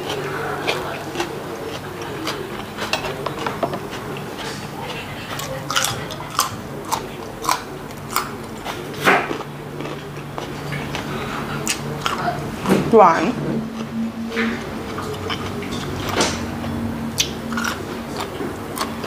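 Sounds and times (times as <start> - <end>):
carrot crunching: 0.0 - 12.7, 13.6 - 19.0
low steady hum: 0.0 - 19.0.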